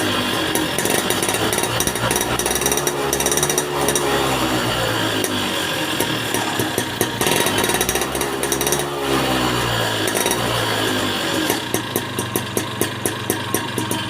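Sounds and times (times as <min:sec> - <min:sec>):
motorcycle engine clattering: 0:00.0 - 0:14.0.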